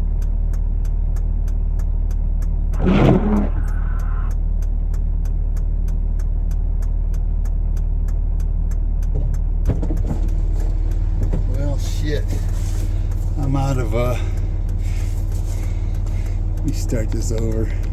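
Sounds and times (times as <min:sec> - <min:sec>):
fast ticking: 0:00.0 - 0:17.9
vehicle engine humming: 0:00.0 - 0:17.9.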